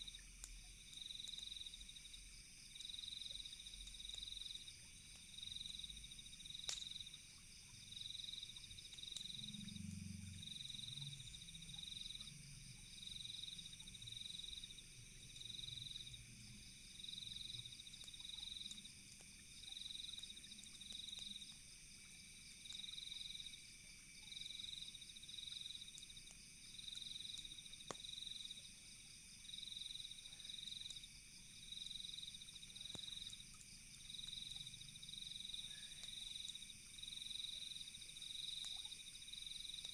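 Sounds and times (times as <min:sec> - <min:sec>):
crickets chirping: 0:00.0 - 0:39.9
faint campfire crackles: 0:00.0 - 0:39.9
steady insect hum: 0:00.0 - 0:39.9.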